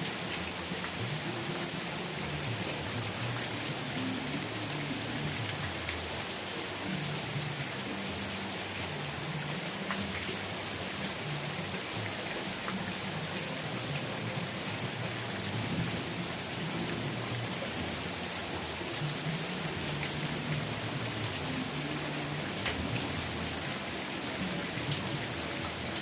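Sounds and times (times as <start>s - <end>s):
heavy rain hissing: 0.0s - 26.0s
rain drop ticks: 0.0s - 26.0s.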